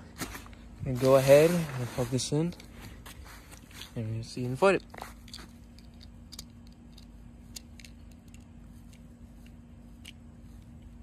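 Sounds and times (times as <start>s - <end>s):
electric blower fan humming: 0.0s - 11.0s.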